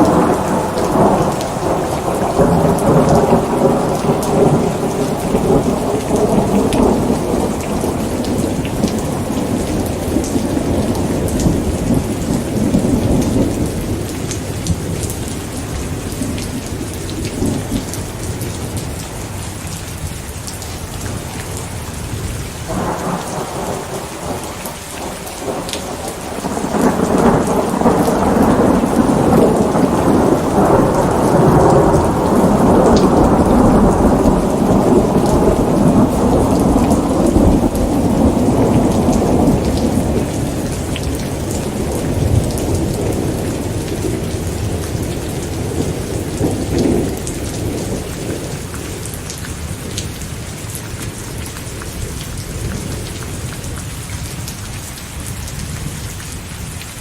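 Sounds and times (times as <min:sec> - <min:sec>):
rolling thunder: 0:00.0 - 0:19.0, 0:21.5 - 0:50.2
steady rain falling: 0:00.0 - 0:57.0.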